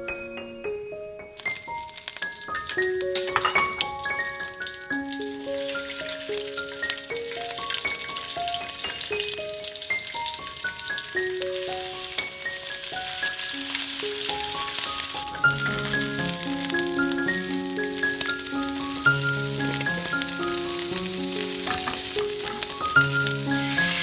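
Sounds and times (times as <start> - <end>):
food sizzling in hot oil: 1.4 - 24.0.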